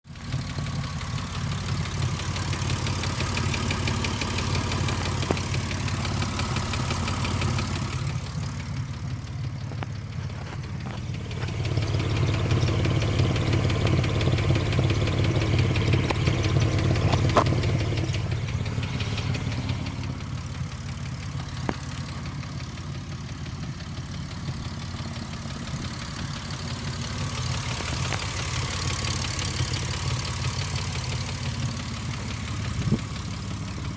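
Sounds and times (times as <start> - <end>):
car engine idling: 0.0 - 33.9
engine ticking: 0.0 - 33.9.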